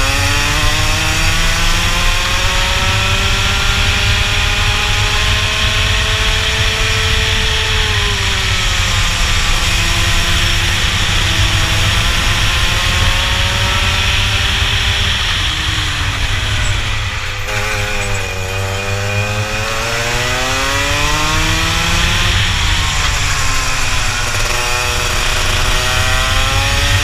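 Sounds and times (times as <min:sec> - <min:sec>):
kart engine revving: 0:00.0 - 0:27.0.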